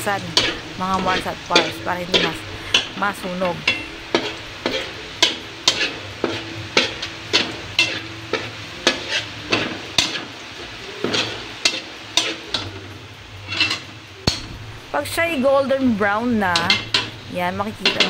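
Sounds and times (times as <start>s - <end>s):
metal spatula scraping a wok: 0.0s - 14.9s, 15.6s - 18.0s
garlic sizzling in hot oil: 0.0s - 18.0s.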